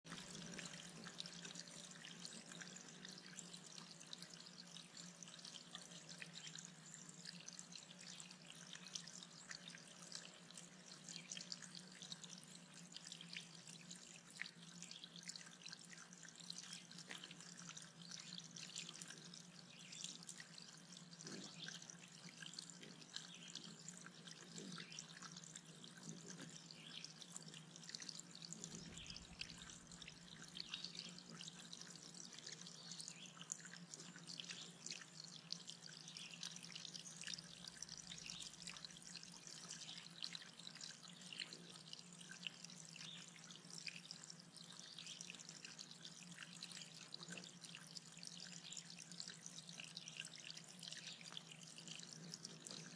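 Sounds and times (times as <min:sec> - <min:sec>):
small waterfall trickling: 0:00.0 - 0:52.9.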